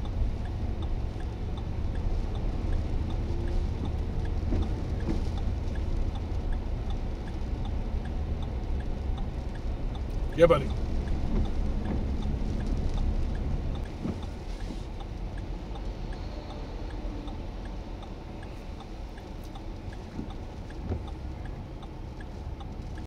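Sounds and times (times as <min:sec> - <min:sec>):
faint even ticks: 0:00.0 - 0:23.0.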